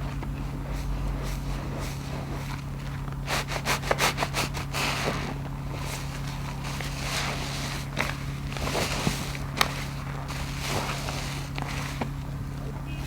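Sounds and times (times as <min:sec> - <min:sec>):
wet sponge squeezing: 0:00.0 - 0:12.8.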